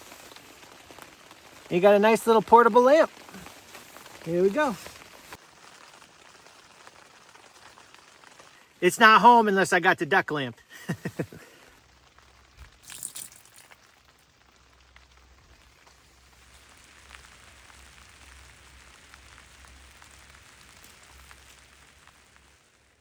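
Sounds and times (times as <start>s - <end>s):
rain on a tent: 0.0s - 23.0s.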